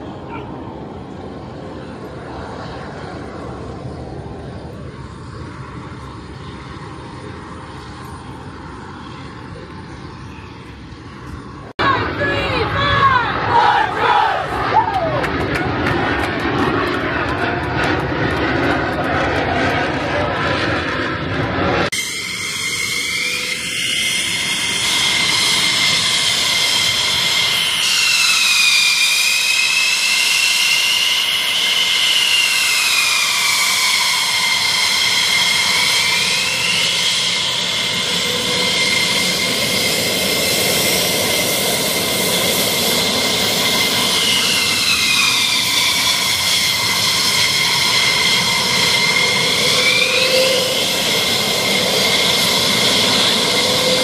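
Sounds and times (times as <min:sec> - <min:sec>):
constant rush: 0:00.0 - 0:54.0
jet engines whining: 0:00.0 - 0:54.0.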